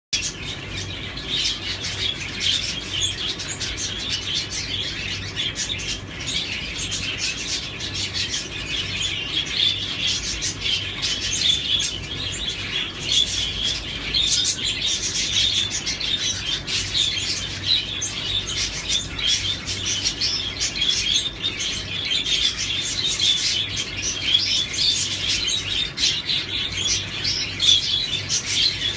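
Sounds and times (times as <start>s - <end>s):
lovebirds chattering: 0.2s - 28.9s.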